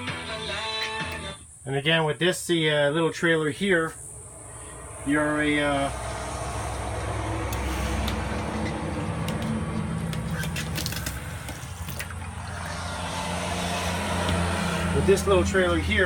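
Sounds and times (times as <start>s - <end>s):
rumble of passing vehicles: 3.0s - 16.0s.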